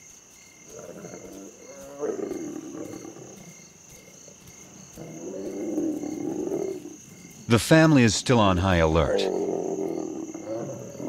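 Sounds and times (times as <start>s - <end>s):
crickets trilling: 0.0s - 11.0s
lion growling: 0.7s - 7.5s, 8.8s - 11.0s.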